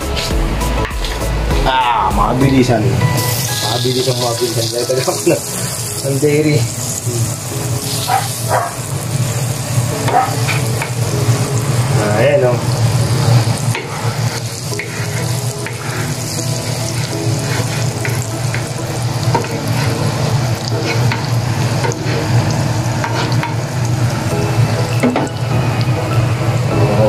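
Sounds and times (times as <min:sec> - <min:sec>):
garlic sizzling in butter: 0:03.2 - 0:26.7.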